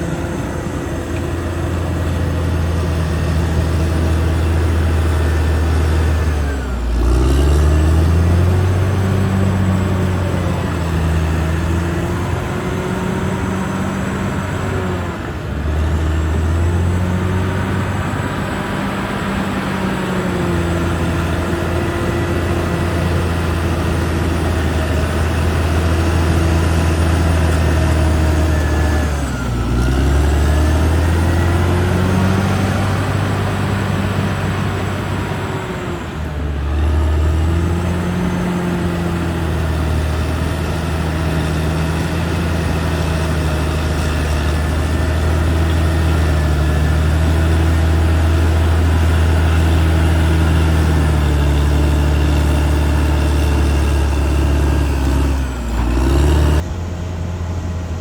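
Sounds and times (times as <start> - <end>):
bulldozer diesel engine revving: 0.0 - 58.0.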